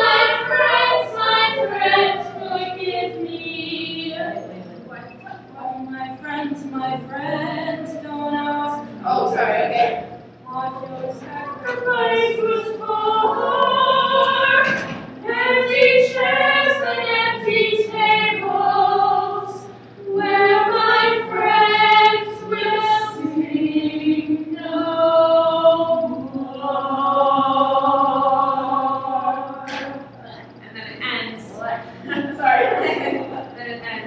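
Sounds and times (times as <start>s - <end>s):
women singing unaccompanied: 0.0s - 34.0s.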